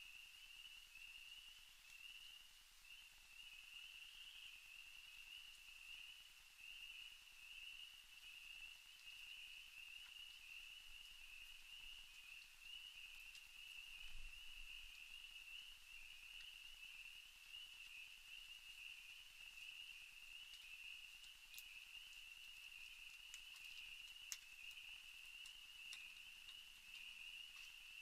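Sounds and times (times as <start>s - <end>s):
night insects trilling: 0.0s - 28.0s.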